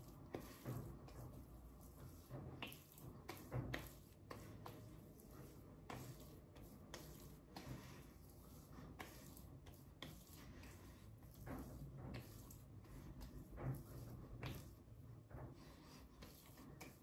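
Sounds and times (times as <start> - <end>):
hands patting cream on skin: 0.2 - 11.4, 12.1 - 14.9.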